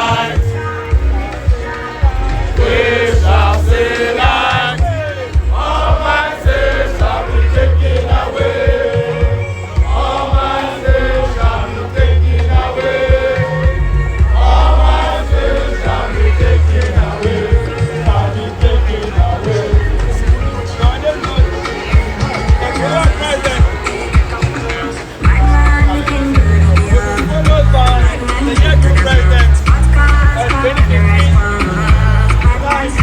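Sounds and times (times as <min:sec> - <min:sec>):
crowd chanting and singing along: 0:00.0 - 0:33.0
loud live music with bass beat: 0:00.0 - 0:33.0.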